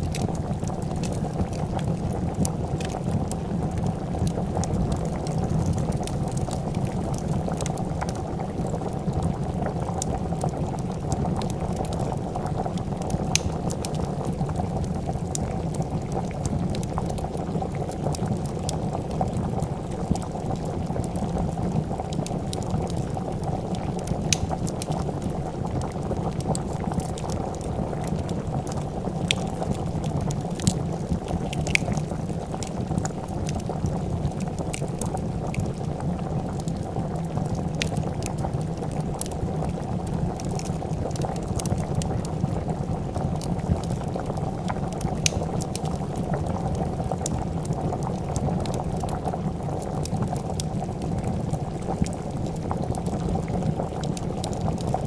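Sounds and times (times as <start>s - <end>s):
soup bubbling at a boil: 0.0s - 55.0s
wood fire crackling: 0.0s - 55.0s.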